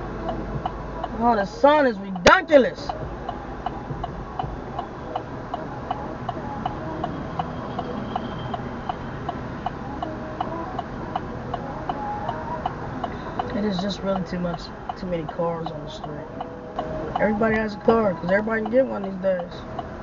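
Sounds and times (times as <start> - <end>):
truck engine and road rumble: 0.0 - 20.0
turn signal clicking: 0.1 - 20.0.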